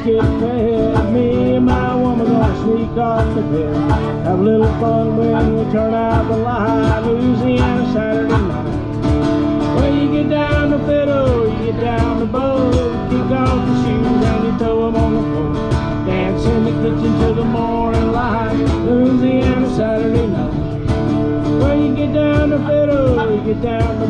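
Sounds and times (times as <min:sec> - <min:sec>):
country band playing guitars: 0:00.0 - 0:24.0
lead guitar bending notes: 0:00.0 - 0:24.0.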